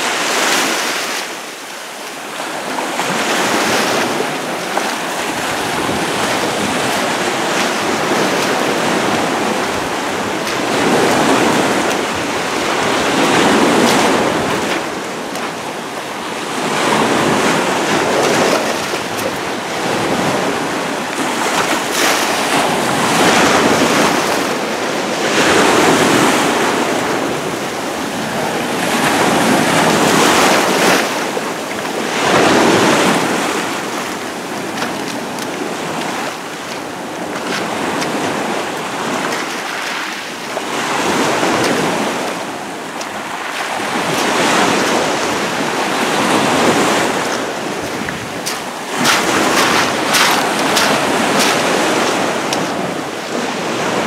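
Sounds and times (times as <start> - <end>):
waves breaking over pebbles: 2.1 - 53.9.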